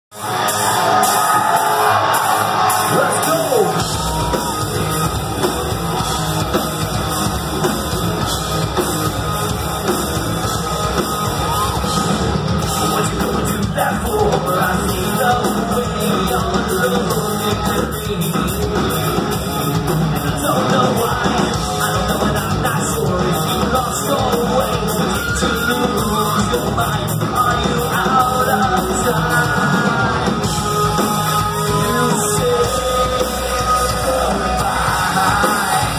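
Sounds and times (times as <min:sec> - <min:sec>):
live metal band playing: 0:00.1 - 0:35.9
yelled vocals: 0:00.2 - 0:35.9
pounding drums: 0:00.3 - 0:35.9
deep bass: 0:02.6 - 0:35.9.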